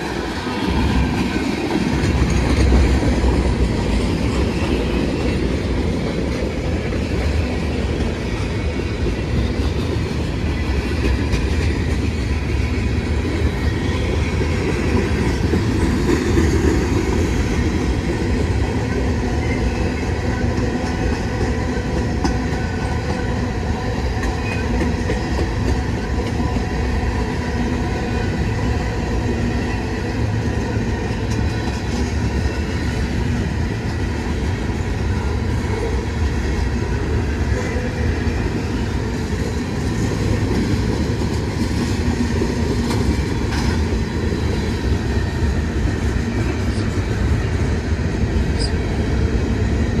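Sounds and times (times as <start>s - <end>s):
freight train wheels on rails: 0.0s - 50.0s.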